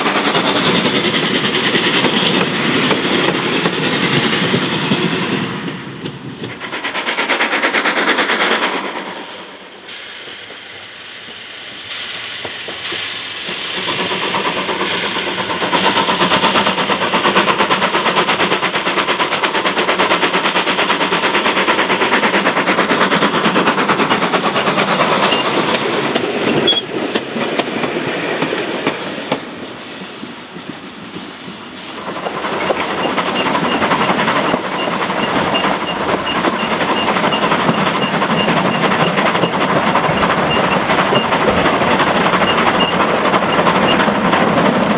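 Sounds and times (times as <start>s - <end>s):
steam locomotive chuffing: 0.0s - 44.9s
train wheels clattering on rails: 0.0s - 44.9s.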